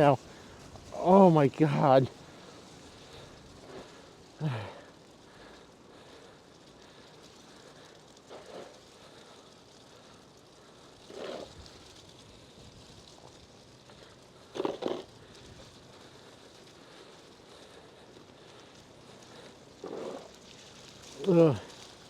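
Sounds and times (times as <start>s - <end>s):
bicycle tyres hissing in snow: 0.0s - 22.0s.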